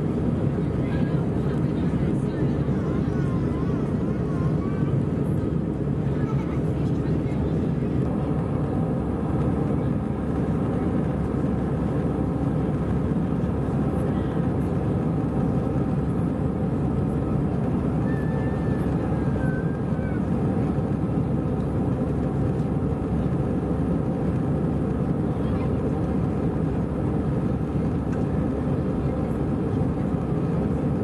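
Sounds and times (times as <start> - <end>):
airplane cabin rumble: 0.0 - 31.0.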